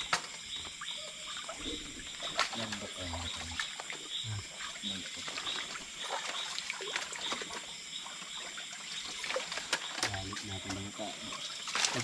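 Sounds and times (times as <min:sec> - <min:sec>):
water trickling and splashing: 0:00.0 - 0:12.0
small splashes and clicks: 0:02.1 - 0:12.0.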